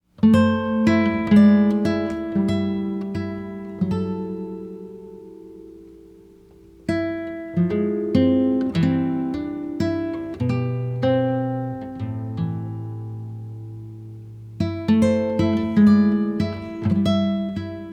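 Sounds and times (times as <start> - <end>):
acoustic guitar picking: 0.2 - 17.9.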